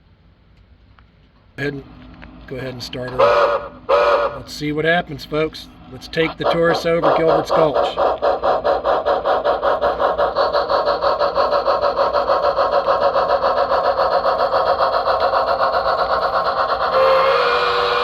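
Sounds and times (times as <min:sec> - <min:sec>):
model steam locomotive chuffing: 0:01.6 - 0:18.0.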